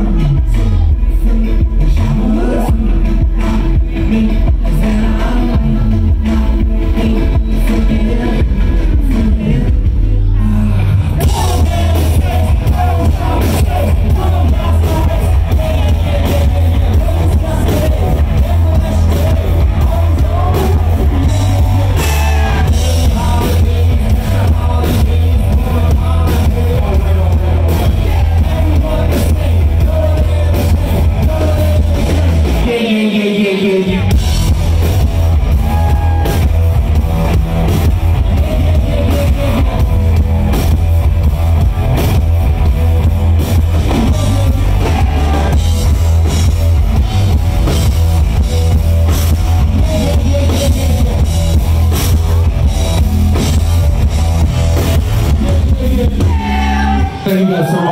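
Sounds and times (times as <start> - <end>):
drum kit: 0.0 - 33.1, 33.8 - 57.5
man singing: 0.0 - 36.5, 37.2 - 40.7, 43.4 - 46.6, 47.2 - 52.5, 55.0 - 57.9
bass guitar: 0.0 - 57.9
electric guitar: 0.0 - 57.9.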